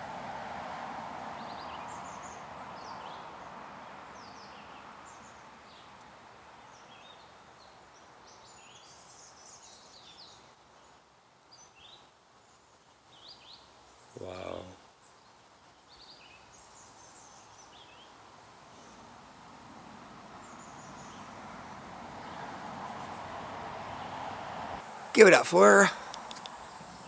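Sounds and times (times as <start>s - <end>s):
background hiss: 0.0s - 27.0s
small birds chirping: 1.4s - 3.6s, 4.2s - 12.1s, 13.1s - 24.8s.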